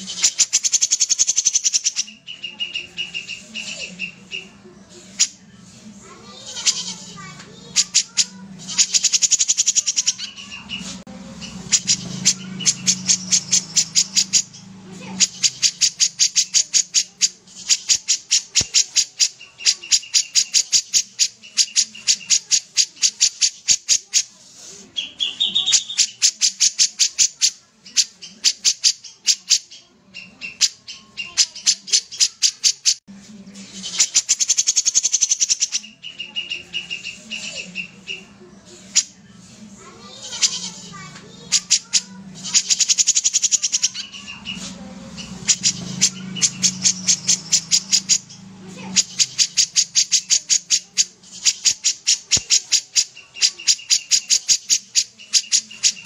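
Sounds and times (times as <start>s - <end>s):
bulbul singing rapid notes: 0.0s - 5.5s, 6.3s - 33.1s, 33.7s - 56.0s.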